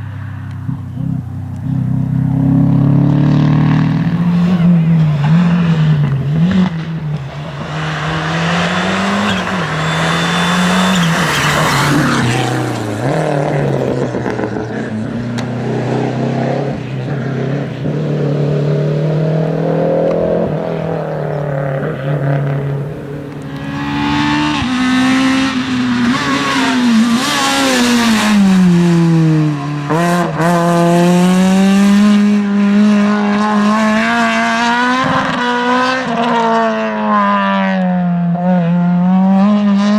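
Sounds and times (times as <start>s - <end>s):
rally car engines revving hard: 0.0s - 39.9s.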